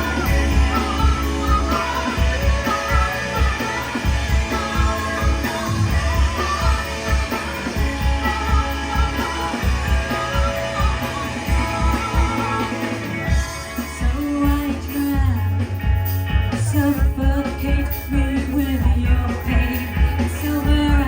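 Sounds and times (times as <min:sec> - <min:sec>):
rock band playing live: 0:00.0 - 0:21.0
steady drum beat: 0:00.0 - 0:21.0.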